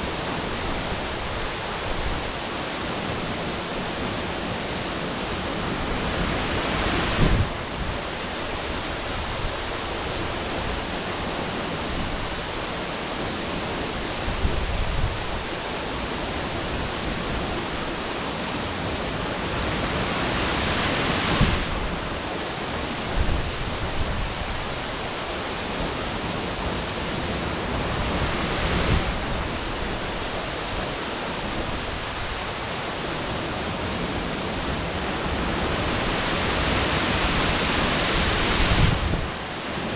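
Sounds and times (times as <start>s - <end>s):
waterfall rushing: 0.0s - 14.5s, 15.2s - 39.9s.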